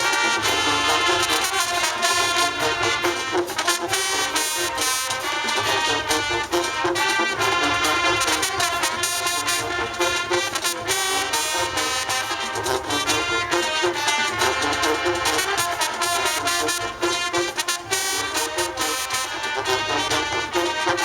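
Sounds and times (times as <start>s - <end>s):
brass section playing tune: 0.0s - 21.0s.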